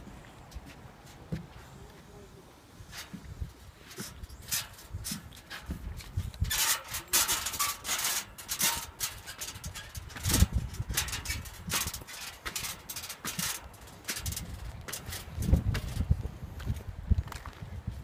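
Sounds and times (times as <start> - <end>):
footsteps on steel stairs: 0.0 - 2.0, 2.9 - 17.5.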